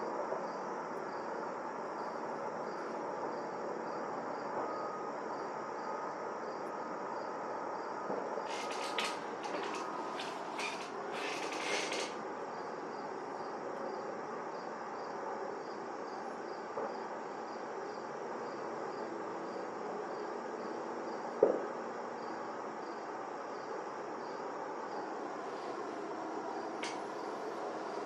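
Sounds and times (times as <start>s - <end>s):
crickets chirping: 0.0s - 28.0s
outdoor background hum: 0.0s - 28.0s.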